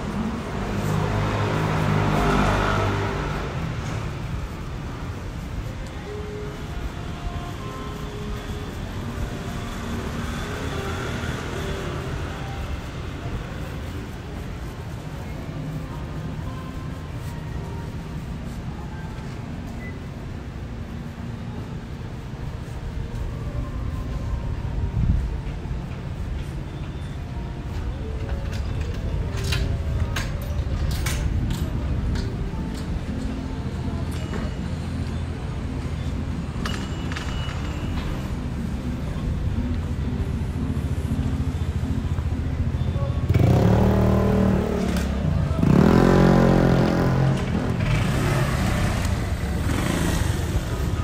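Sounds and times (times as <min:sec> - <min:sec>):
city traffic noise: 0:00.0 - 0:51.0.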